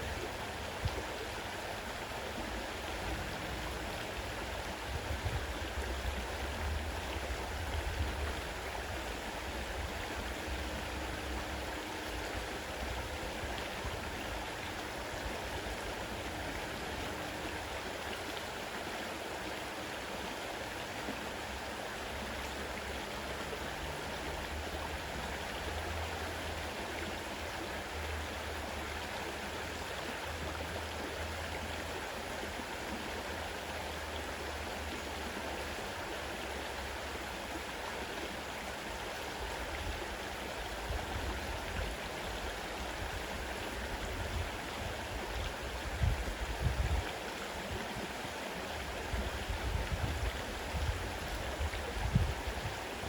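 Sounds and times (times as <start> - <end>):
river rushing water: 0.0 - 53.0.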